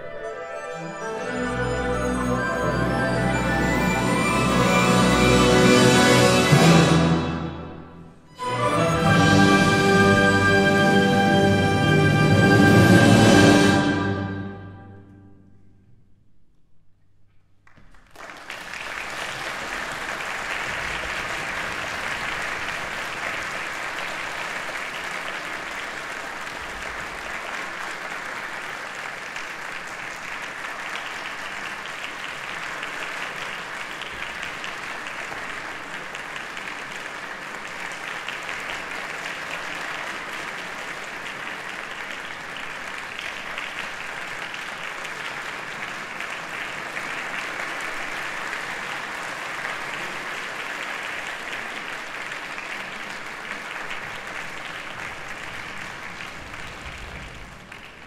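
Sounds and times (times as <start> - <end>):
audience applauding: 0.0 - 7.4, 8.3 - 14.5, 17.6 - 58.0.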